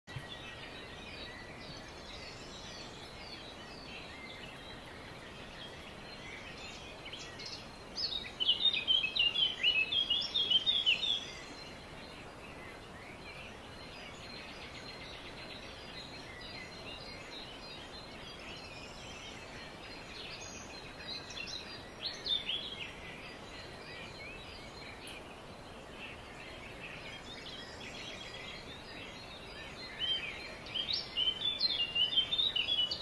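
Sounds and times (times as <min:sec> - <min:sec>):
background hiss: 0:00.1 - 0:33.0
songbirds chirping: 0:00.1 - 0:33.0.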